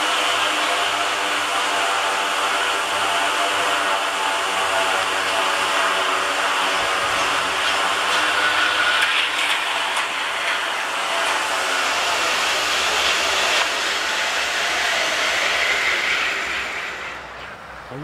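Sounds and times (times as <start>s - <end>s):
mechanical lure whirring on rail: 0.0s - 17.6s.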